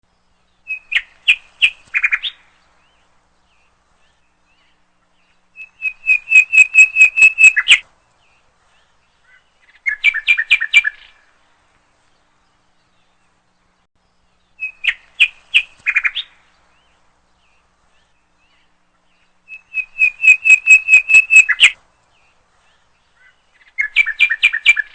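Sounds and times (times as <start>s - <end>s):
small bird chirping: 0.2s - 11.3s, 12.2s - 24.9s.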